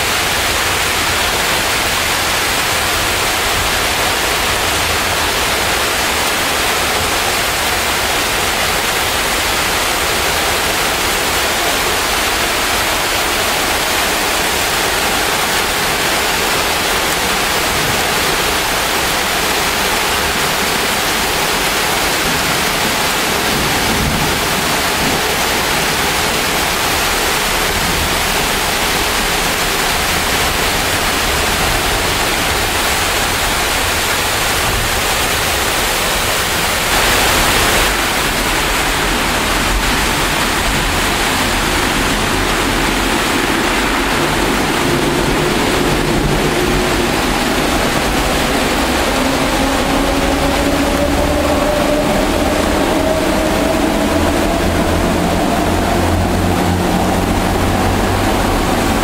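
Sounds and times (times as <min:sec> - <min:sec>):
torrential rain pouring: 0:00.0 - 0:59.0.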